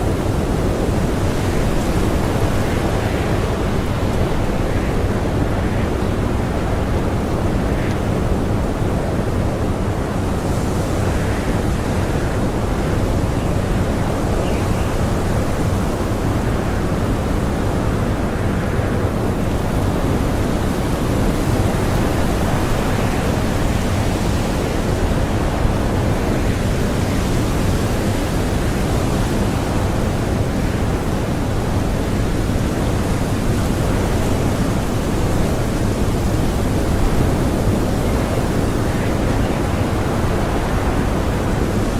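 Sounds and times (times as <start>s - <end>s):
blizzard wind blowing: 0.0s - 41.9s.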